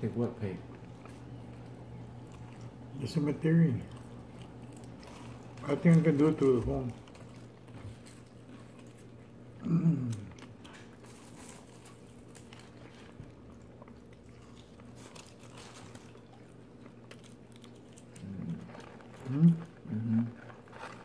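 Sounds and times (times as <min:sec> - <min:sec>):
steady low hum: 0:00.0 - 0:21.0
chewing mouth sounds: 0:00.4 - 0:21.0.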